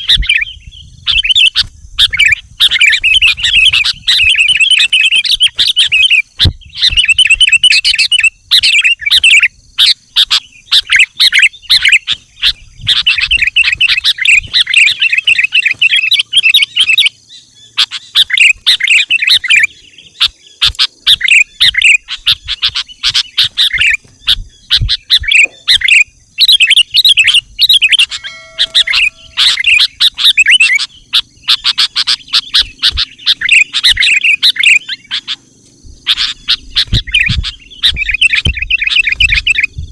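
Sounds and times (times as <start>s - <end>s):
bulbul chattering chirps: 0.0s - 39.9s.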